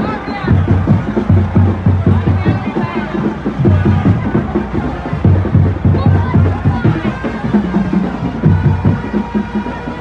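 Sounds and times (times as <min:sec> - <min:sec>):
music with heavy bass beat: 0:00.4 - 0:10.0.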